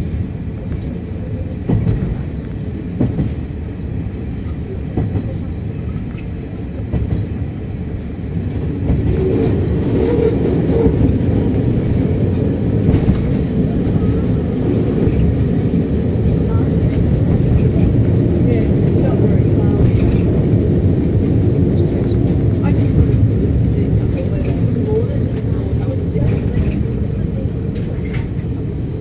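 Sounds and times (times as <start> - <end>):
railcar engine and wheels rumbling: 0.0 - 29.0.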